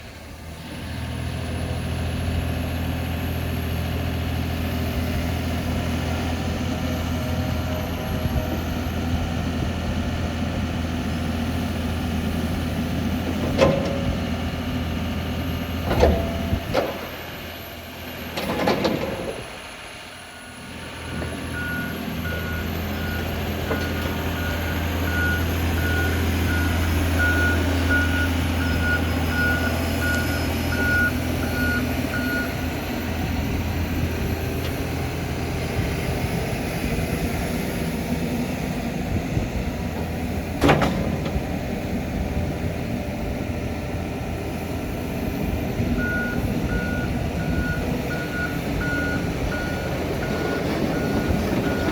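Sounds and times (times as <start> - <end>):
excavator diesel engine humming: 0.0 - 51.9.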